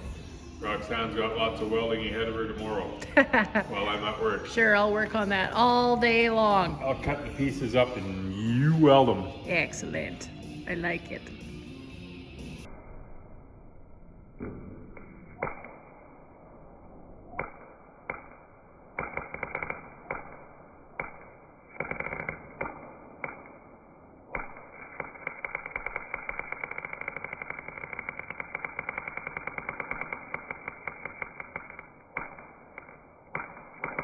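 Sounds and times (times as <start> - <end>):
arc welder crackling: 0.8 - 12.6, 17.3 - 34.0.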